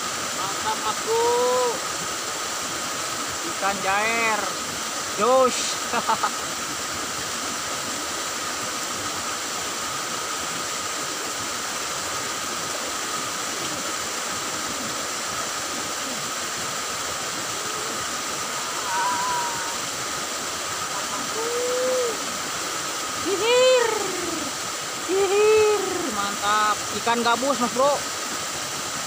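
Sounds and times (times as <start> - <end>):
water flowing in ditch: 0.0 - 29.0.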